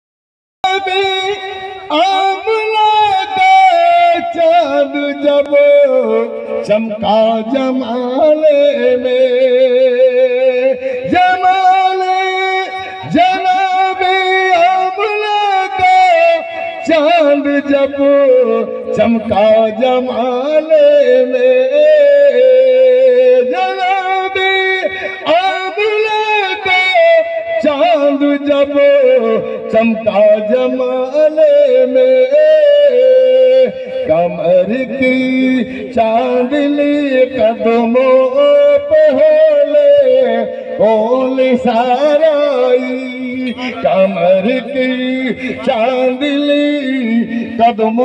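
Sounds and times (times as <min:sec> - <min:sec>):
man singing into microphone: 0:00.6 - 0:48.0.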